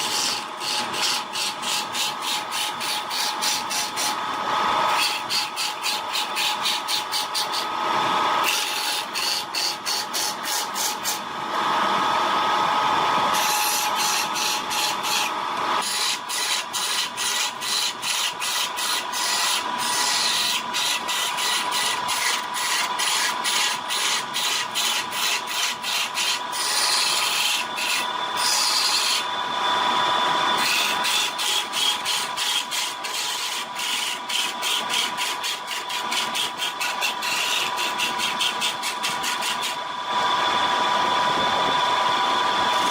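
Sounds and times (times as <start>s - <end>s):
turning tool rasping wood: 0.0s - 11.2s, 13.3s - 29.3s, 30.3s - 39.8s
wood lathe motor running: 0.0s - 42.9s.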